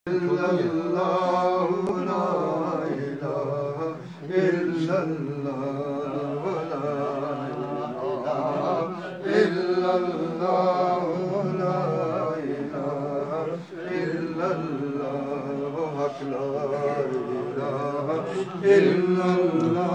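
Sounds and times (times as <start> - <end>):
men chanting: 0.1 - 19.9.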